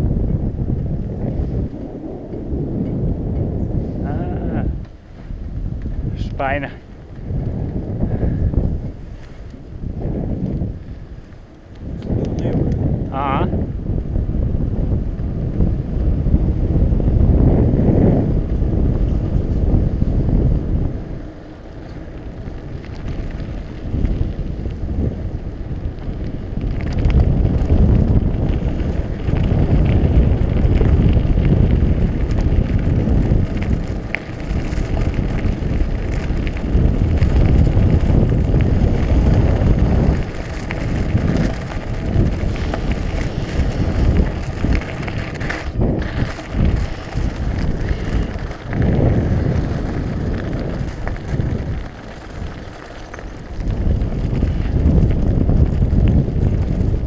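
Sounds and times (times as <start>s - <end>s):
bike tyres crunching on gravel: 0.0s - 57.0s
wind rushing over microphone: 0.0s - 57.0s.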